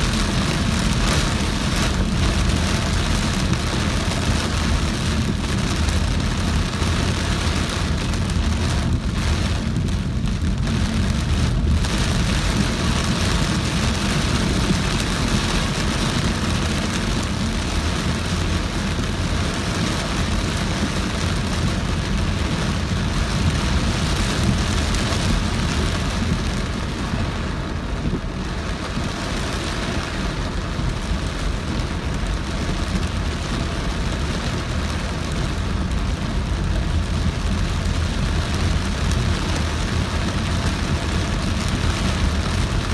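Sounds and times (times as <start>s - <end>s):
heavy rain pelting car: 0.0s - 42.9s
road and tyre noise: 0.0s - 42.9s.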